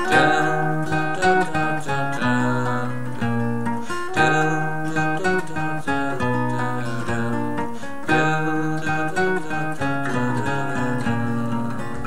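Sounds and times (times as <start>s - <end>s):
acoustic guitar riff: 0.0s - 12.0s.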